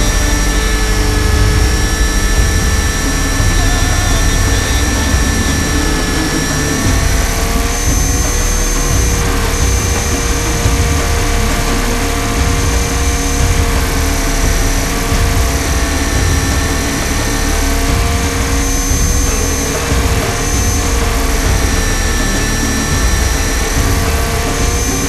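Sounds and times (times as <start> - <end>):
high whine of helicopter drive: 0.0 - 25.0
low rumble of wind on microphone: 0.0 - 25.0
rotor noise: 0.0 - 25.0.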